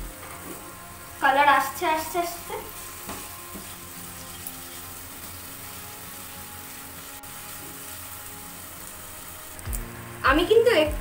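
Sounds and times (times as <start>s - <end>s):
soft background music: 0.0s - 11.0s
spices sizzling in oil: 0.0s - 11.0s.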